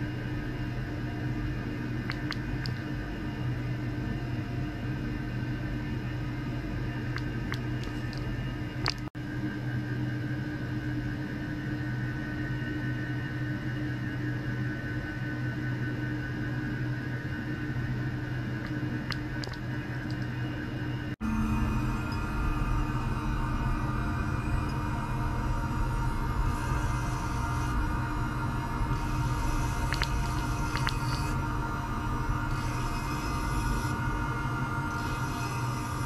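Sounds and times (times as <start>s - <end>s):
electrical hum: 0.0s - 36.0s
high whine: 0.0s - 36.0s.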